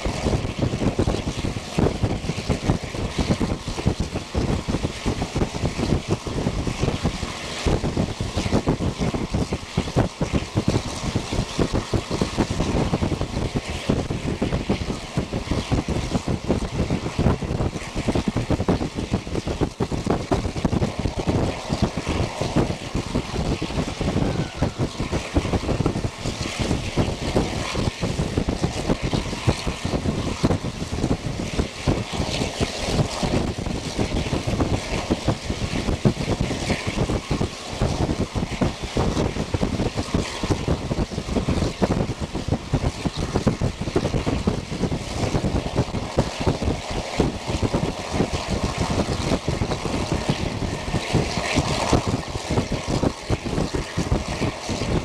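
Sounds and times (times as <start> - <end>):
train running noise: 0.0 - 55.0
wind buffeting microphone: 0.0 - 55.0.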